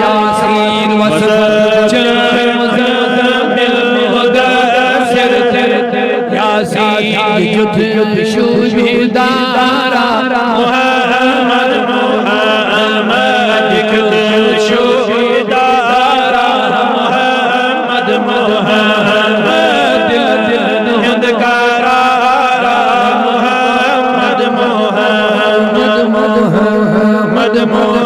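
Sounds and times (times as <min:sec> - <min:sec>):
man chanting: 0:00.0 - 0:28.0.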